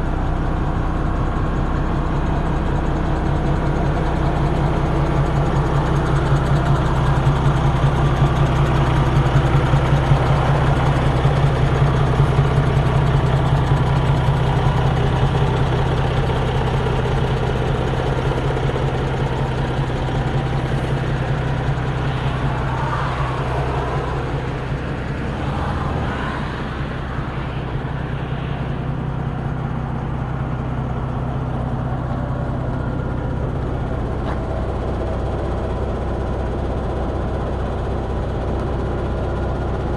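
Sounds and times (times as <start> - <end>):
truck diesel engine droning: 0.0 - 39.9.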